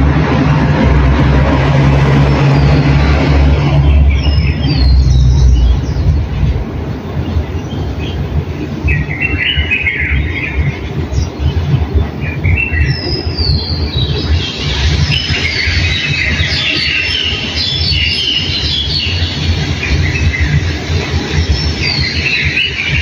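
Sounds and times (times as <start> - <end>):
loud continuous low rumble: 0.0 - 23.0
small birds chirping: 2.5 - 23.0.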